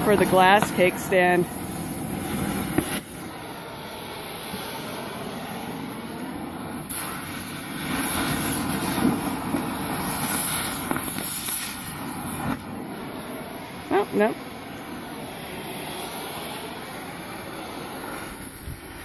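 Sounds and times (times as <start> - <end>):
cutting torch hissing roar: 0.0 - 19.0.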